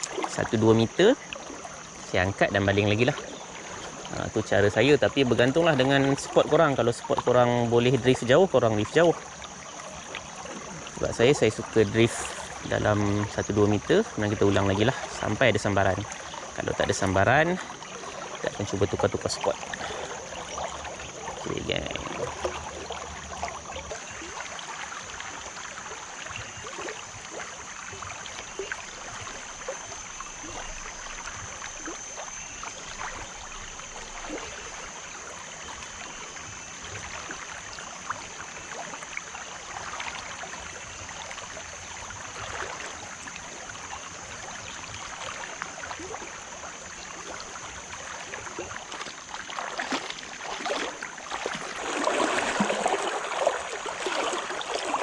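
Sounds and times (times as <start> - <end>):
high-pitched hum: 0.0 - 55.0
river rushing and gurgling: 0.0 - 55.0.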